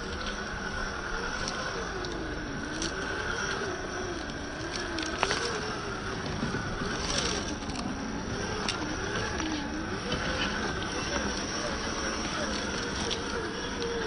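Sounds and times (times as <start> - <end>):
electric motor whining: 0.0 - 14.0
steady rustle: 0.0 - 14.0.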